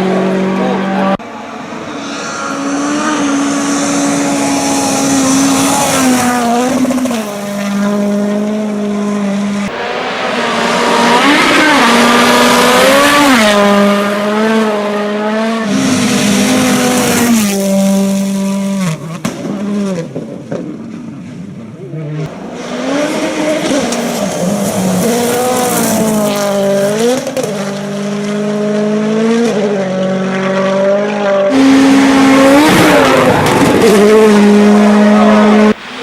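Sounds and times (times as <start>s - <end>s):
racing engines at high revs: 0.0s - 36.0s.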